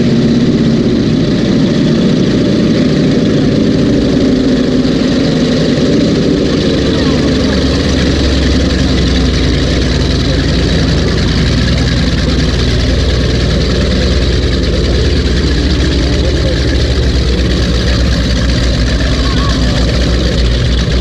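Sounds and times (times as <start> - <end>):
powerboat engines running: 0.0 - 21.0.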